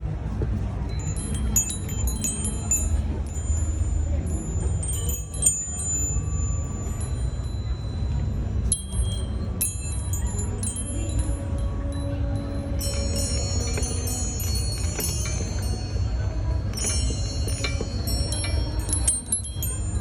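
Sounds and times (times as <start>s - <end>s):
steady low rumble: 0.0s - 20.0s
wind chime ringing: 0.8s - 20.0s.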